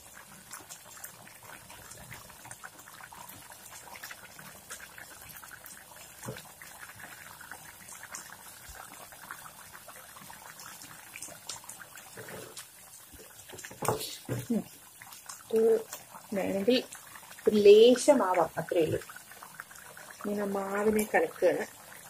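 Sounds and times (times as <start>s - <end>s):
stew bubbling in a pan: 0.0s - 22.0s
spatula stirring stew: 0.4s - 20.4s.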